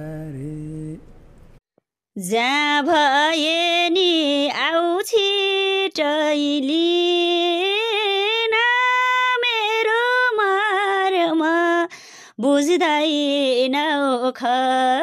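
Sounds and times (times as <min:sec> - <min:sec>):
woman singing unaccompanied: 0:02.2 - 0:15.0.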